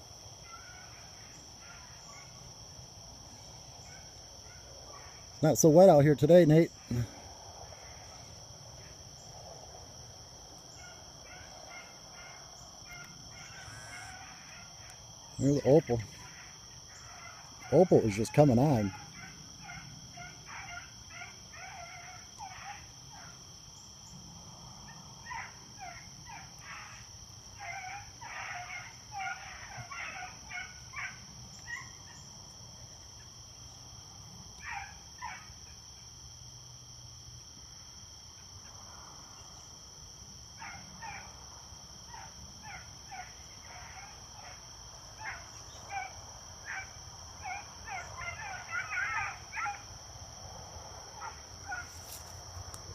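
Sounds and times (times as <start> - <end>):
distant beagles baying: 0.0 - 9.4, 10.6 - 23.9, 24.8 - 33.4, 34.4 - 35.8, 40.5 - 52.9.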